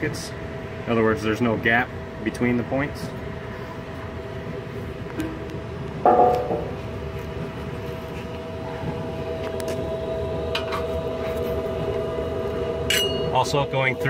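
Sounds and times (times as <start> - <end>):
exhaust blower humming: 0.0 - 14.0.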